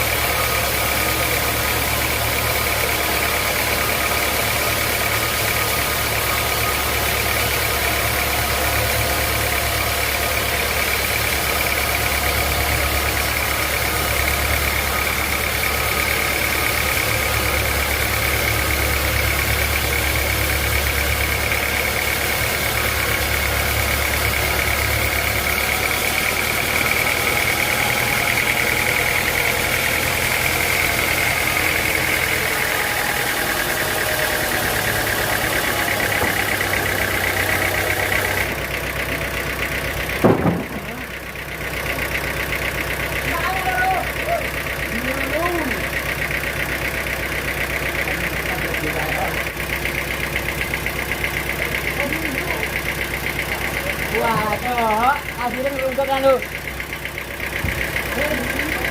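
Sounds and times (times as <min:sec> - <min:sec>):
low engine hum: 0:00.0 - 0:58.9.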